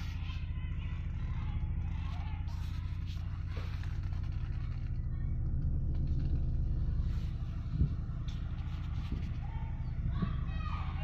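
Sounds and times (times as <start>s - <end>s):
car engine low hum: 0.0s - 11.0s.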